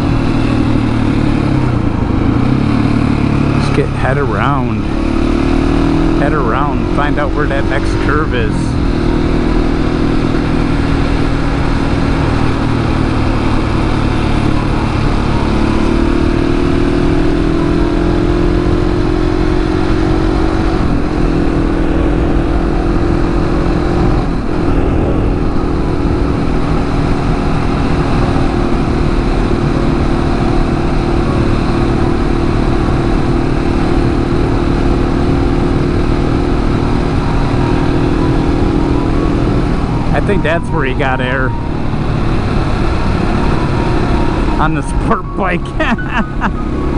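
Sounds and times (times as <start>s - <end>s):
motorcycle engine running under load: 0.0s - 46.9s
wind and road noise: 0.0s - 46.9s.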